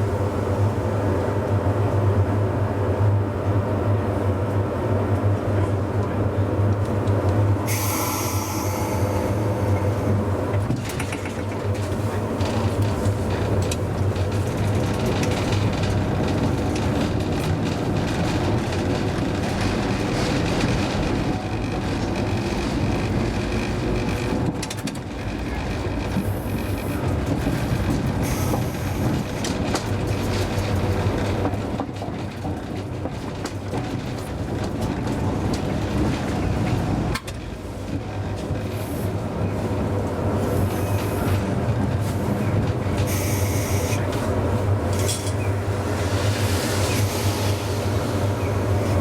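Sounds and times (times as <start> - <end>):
tram motor hum: 0.0 - 49.0
wheels rumbling on rail: 0.0 - 49.0.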